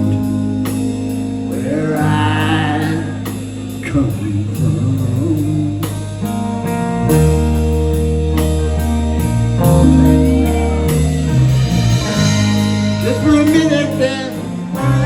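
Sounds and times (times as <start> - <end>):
deep bass line: 0.0 - 15.0
guitar: 0.0 - 15.0.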